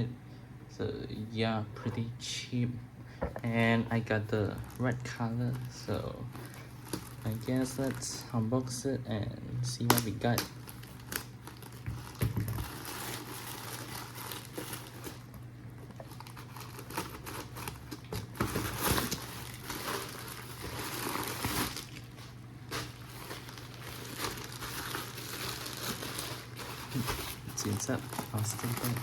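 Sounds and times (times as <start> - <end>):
plastic packaging crinkling: 4.0 - 8.7, 9.8 - 29.0.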